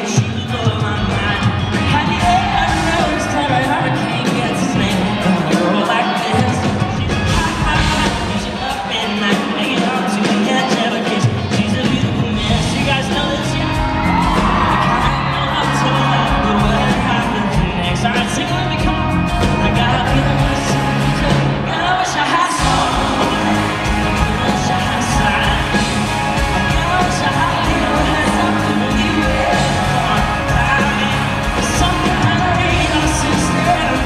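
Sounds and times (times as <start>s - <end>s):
crowd whooping and cheering: 0.0s - 34.0s
live country rock band: 0.0s - 34.0s
man singing lead vocals: 0.0s - 34.0s.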